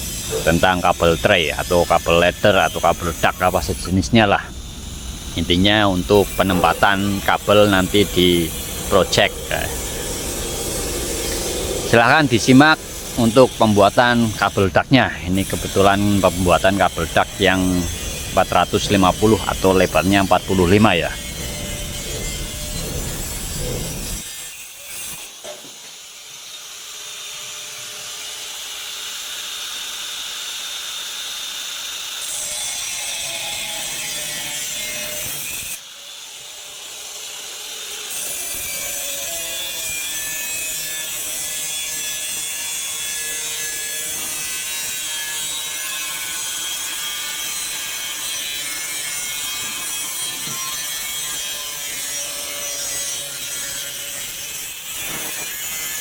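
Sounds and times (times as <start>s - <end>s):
angle grinder cutting metal: 0.0s - 56.0s.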